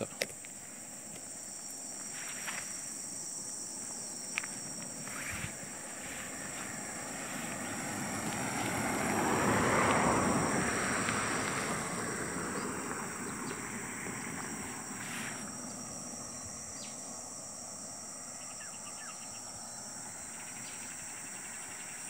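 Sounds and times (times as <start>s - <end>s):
insects buzzing: 0.0s - 22.0s
vehicle passing on dirt road: 0.5s - 22.0s.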